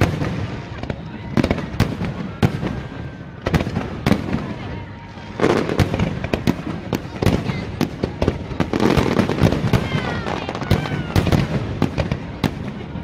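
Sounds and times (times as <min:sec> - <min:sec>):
fireworks bangs with crackling: 0:00.0 - 0:13.0.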